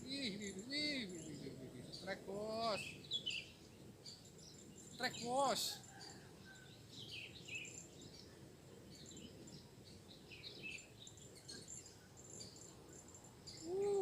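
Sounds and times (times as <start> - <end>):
high insect hum: 0.0 - 14.0
low background noise: 0.0 - 14.0
small birds chirping: 0.0 - 14.0.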